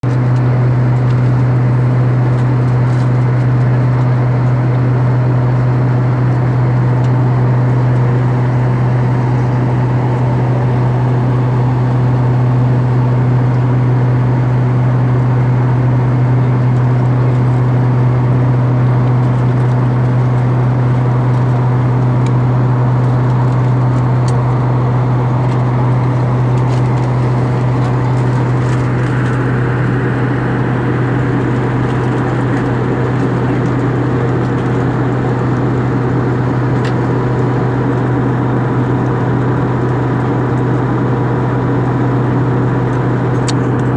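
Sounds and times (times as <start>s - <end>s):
airliner cabin drone: 0.1s - 43.9s.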